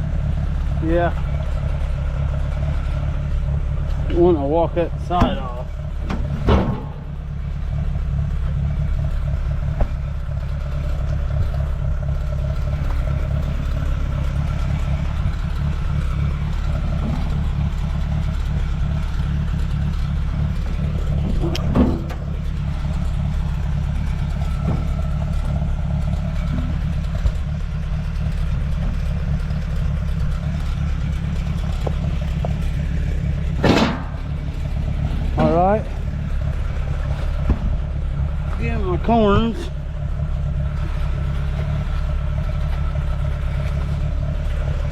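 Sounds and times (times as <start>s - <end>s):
tractor engine idling: 0.0s - 44.9s.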